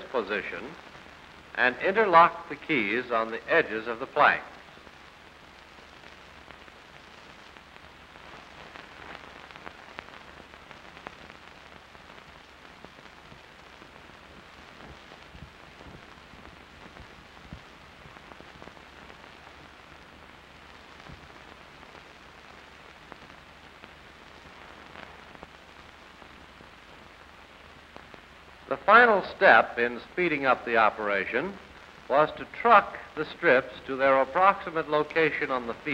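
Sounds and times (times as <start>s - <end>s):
film soundtrack hiss and crackle: 0.0s - 35.9s.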